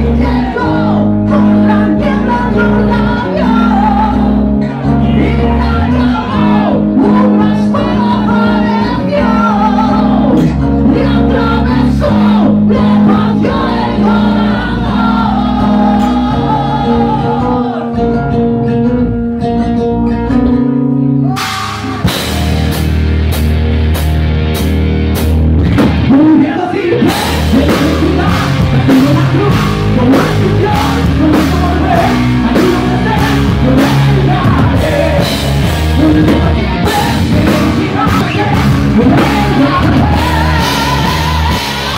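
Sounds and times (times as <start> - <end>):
man singing: 0.0 - 18.4, 26.0 - 41.9
drums: 0.0 - 41.9
heavy metal band playing live: 0.0 - 41.9.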